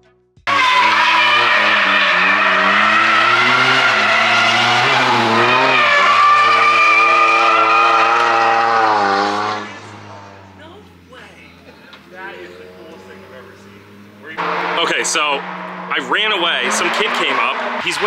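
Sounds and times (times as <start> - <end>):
car engine at high revs: 0.5 - 18.0
tyres squealing: 0.5 - 18.0.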